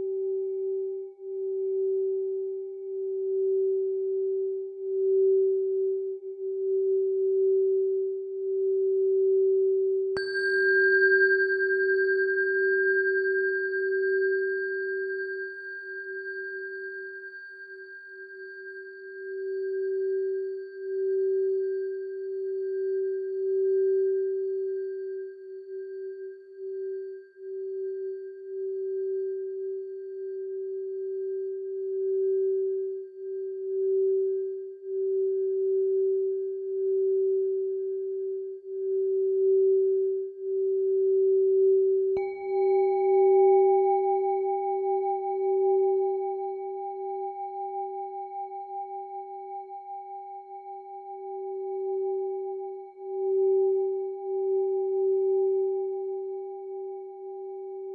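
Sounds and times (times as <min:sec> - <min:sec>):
singing bowl humming: 0:00.0 - 0:57.9.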